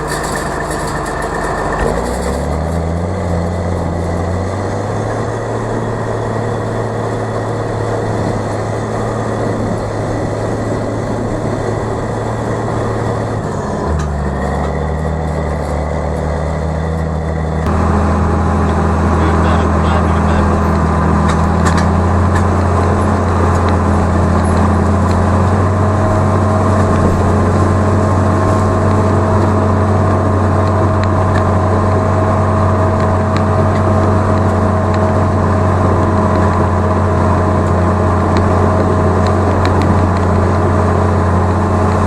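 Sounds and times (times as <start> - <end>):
steady whine: 0.0 - 42.0
tractor engine droning: 0.0 - 42.0.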